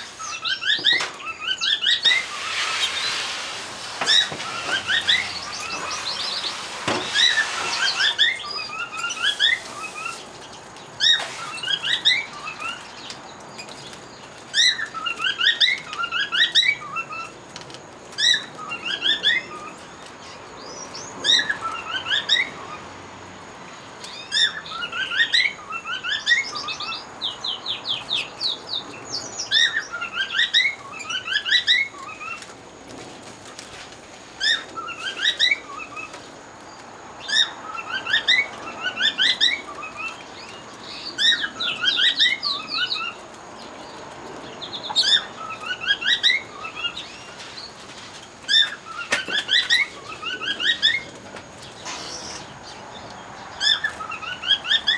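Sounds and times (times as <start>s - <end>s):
canaries singing: 0.0s - 54.9s.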